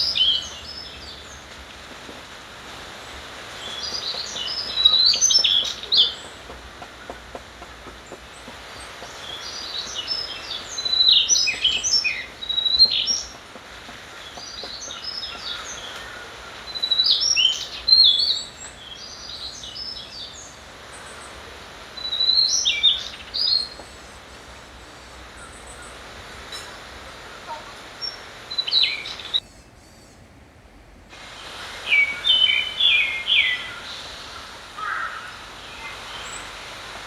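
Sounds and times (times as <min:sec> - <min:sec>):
songbird chirping: 0:00.0 - 0:30.3, 0:31.8 - 0:37.0
background hiss: 0:00.0 - 0:37.0.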